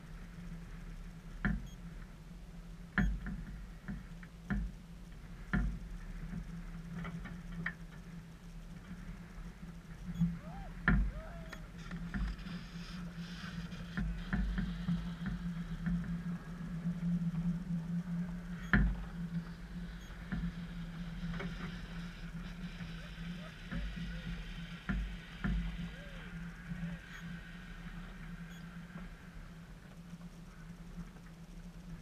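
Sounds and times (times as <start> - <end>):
faint hiss: 0.0 - 32.0
steady low hum: 0.0 - 32.0.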